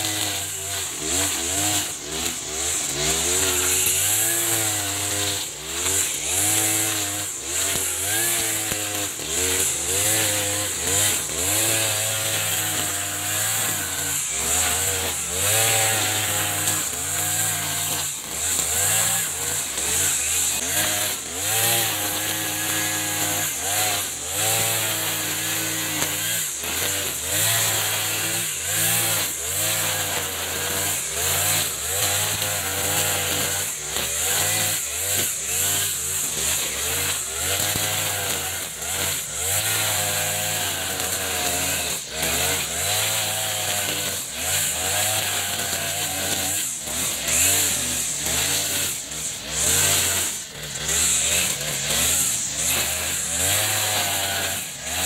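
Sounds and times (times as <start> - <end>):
brush cutter engine at high throttle: 0.0 - 55.0
trimmer line cutting grass: 0.0 - 55.0.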